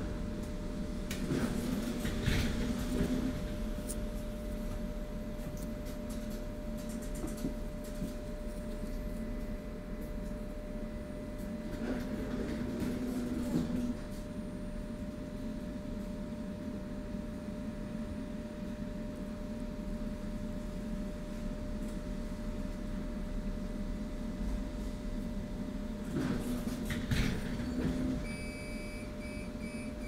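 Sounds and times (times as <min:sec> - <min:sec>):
tram electrical hum: 0:00.0 - 0:30.0.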